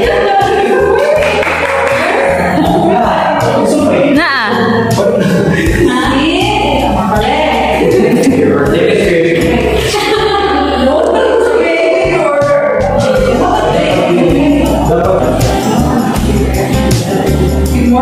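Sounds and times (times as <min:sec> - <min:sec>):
background music with singing: 0:00.0 - 0:18.0.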